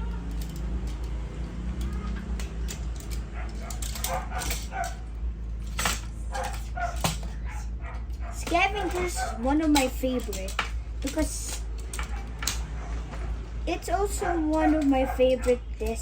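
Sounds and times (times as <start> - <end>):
toy parts clicking into place: 0.1 - 7.3, 8.4 - 12.7, 14.4 - 16.0.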